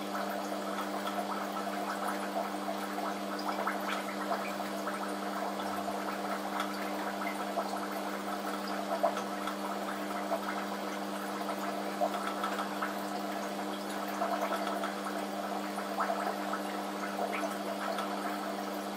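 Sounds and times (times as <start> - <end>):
aquarium water bubbling: 0.0 - 18.9.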